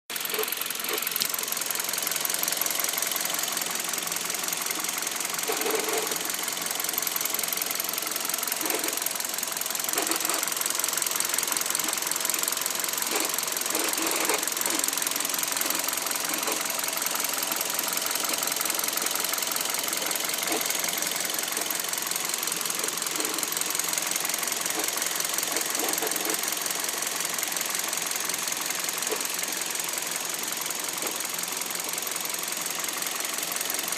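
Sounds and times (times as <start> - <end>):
car engine running: 0.1 - 33.9.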